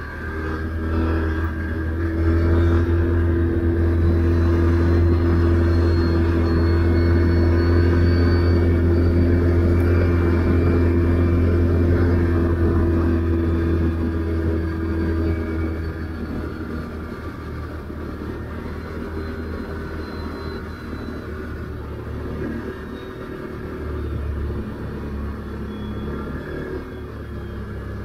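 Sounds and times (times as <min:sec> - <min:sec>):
atv engine droning: 0:00.0 - 0:28.0.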